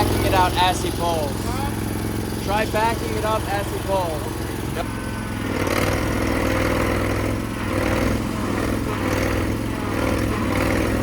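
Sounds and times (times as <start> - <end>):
engines straining under load: 0.0 - 11.0.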